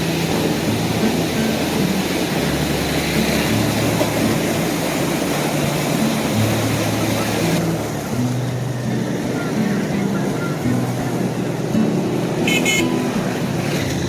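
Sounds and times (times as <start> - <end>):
water rushing through sluice gates: 0.0 - 14.0.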